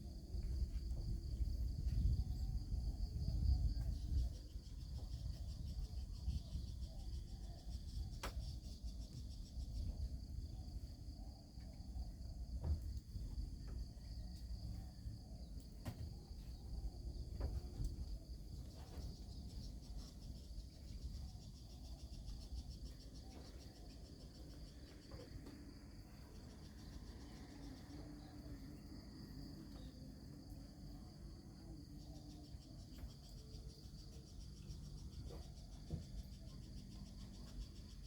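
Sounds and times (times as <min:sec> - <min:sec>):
crickets trilling: 0:00.0 - 0:38.0.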